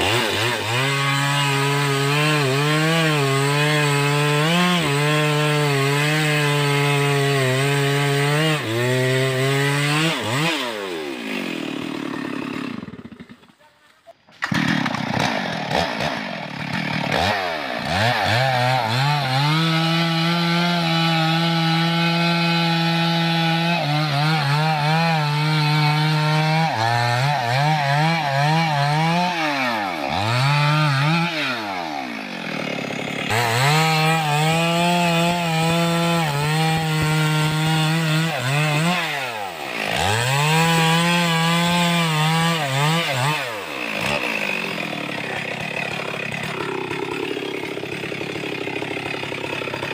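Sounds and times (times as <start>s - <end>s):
chainsaw cutting logs: 0.0s - 49.9s.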